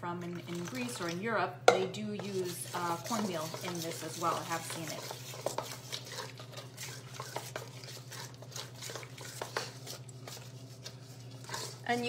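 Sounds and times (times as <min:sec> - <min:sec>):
fork scraping metal bowl: 0:01.7 - 0:12.0.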